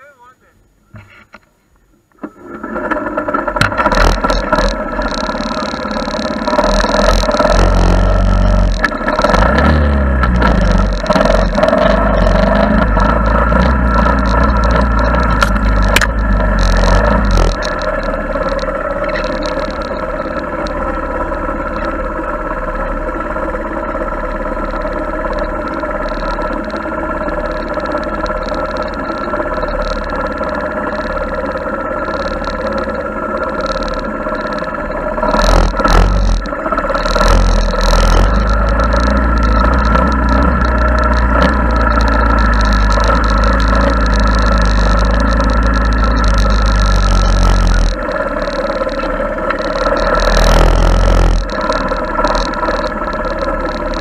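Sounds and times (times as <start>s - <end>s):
small engine running: 2.2s - 54.0s
heavy low rumble: 2.4s - 54.0s.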